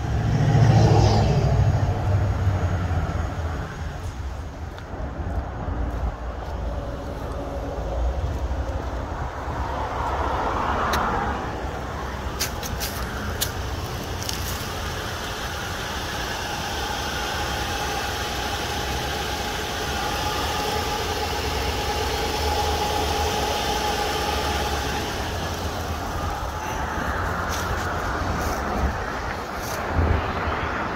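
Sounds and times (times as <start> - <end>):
motor vehicle rumble: 0.0 - 30.9.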